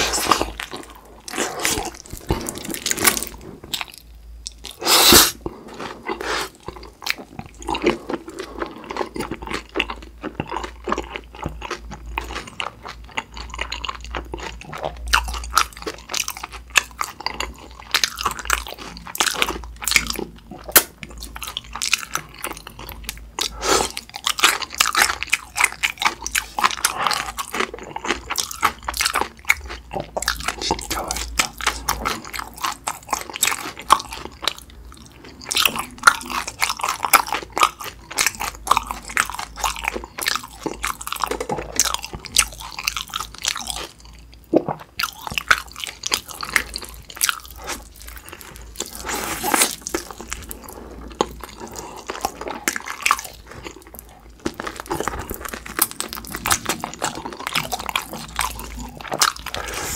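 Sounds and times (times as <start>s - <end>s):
crackly chewing: 0.0s - 59.9s.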